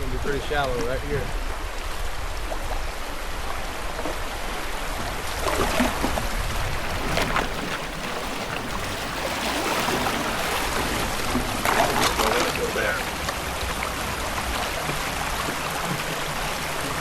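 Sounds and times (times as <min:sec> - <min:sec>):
river water rushing: 0:00.0 - 0:17.0
water splashes: 0:00.0 - 0:17.0.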